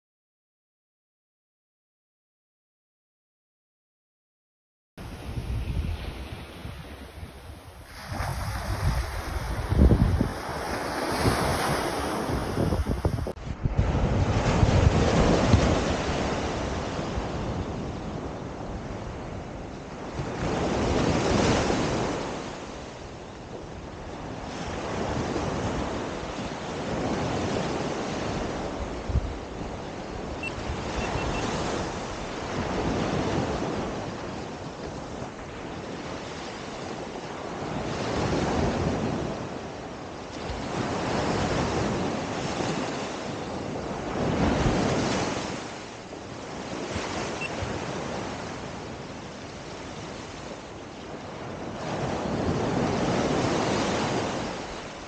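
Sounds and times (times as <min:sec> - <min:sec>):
ocean surf breaking on beach: 0:05.0 - 0:55.0.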